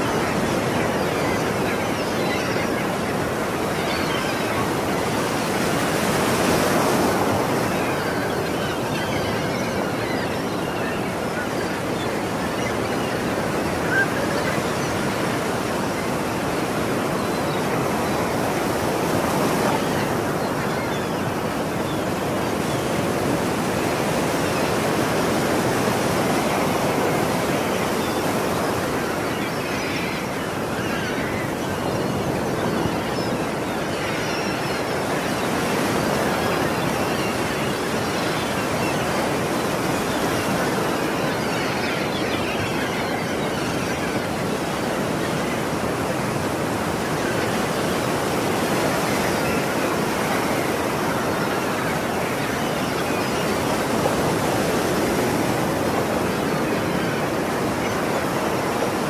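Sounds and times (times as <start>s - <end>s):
faint seagull calls: 0.0s - 59.0s.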